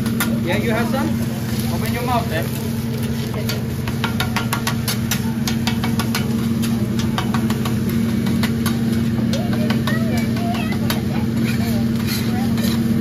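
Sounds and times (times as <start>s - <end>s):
exhaust hood fan humming: 0.0s - 13.0s.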